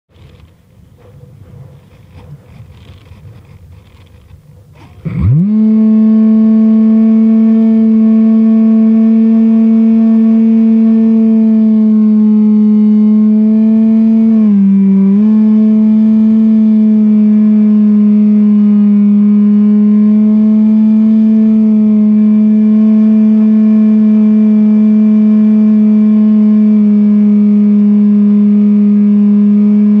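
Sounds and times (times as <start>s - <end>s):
drone motors humming: 0.1s - 30.0s.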